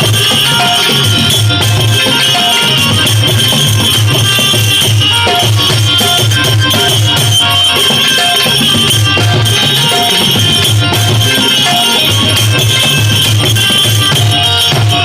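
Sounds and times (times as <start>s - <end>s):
jingling percussion: 0.0s - 15.0s
keyed banjo-zither melody: 0.0s - 15.0s.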